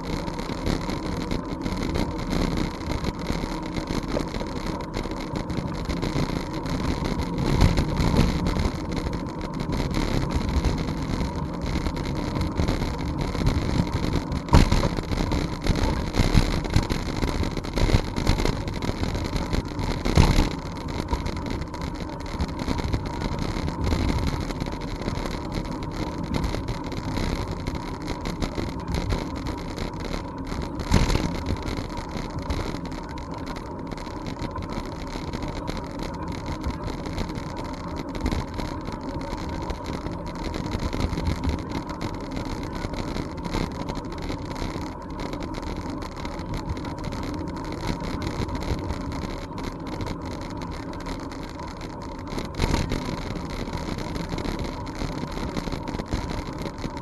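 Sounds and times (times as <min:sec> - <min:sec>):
bicycle tyres and frame rattling: 0:00.0 - 0:57.0.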